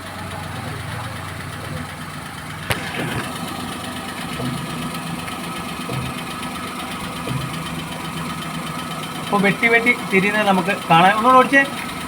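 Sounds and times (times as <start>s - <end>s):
car engine idling: 0.0s - 12.0s
faint suspension ticks: 0.0s - 12.0s
suspension click: 0.1s - 12.0s.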